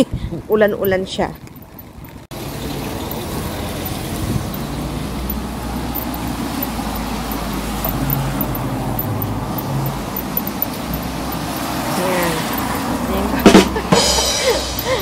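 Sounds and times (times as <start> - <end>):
traffic on a wet road: 2.3 - 15.0.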